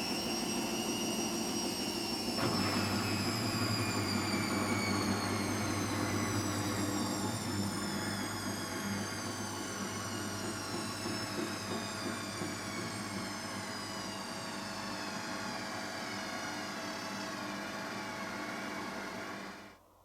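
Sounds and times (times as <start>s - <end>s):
washing machine motor whine: 0.0s - 19.8s.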